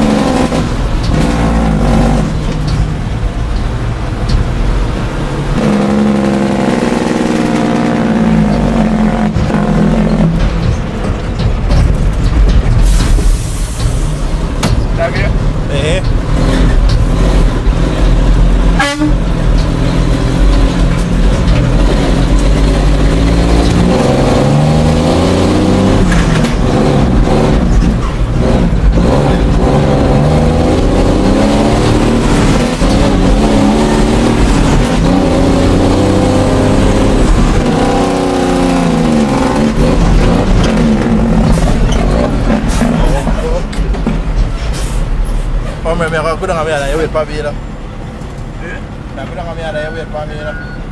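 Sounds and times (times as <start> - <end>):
truck engine revving through gears: 0.0 - 50.9.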